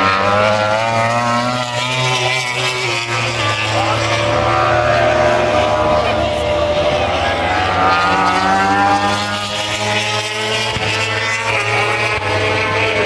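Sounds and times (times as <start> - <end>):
racing motorcycles passing: 0.0 - 13.0.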